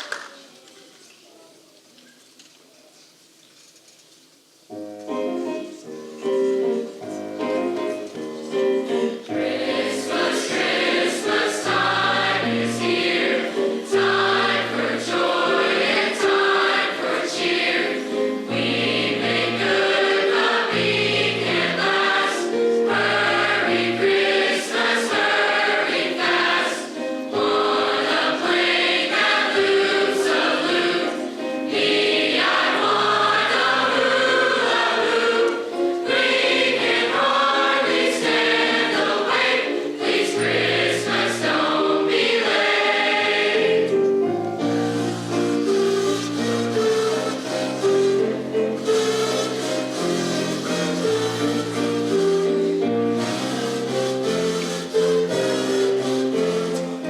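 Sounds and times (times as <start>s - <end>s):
piano accompaniment: 4.7s - 57.0s
choir singing: 6.5s - 57.0s.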